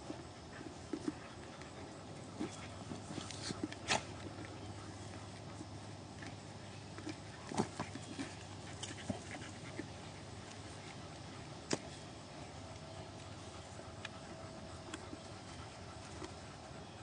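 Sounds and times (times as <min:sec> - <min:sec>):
dogs play-fighting: 0:00.0 - 0:17.0.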